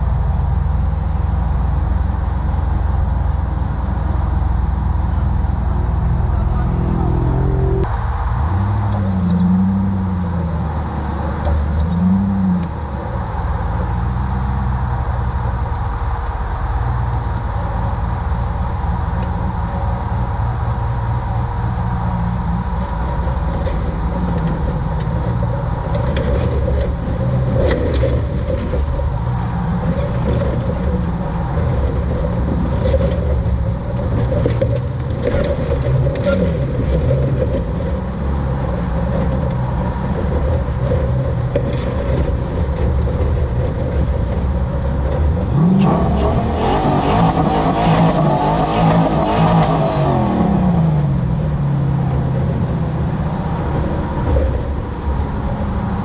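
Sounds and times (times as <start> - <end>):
buggy engine revving: 0.0 - 56.0.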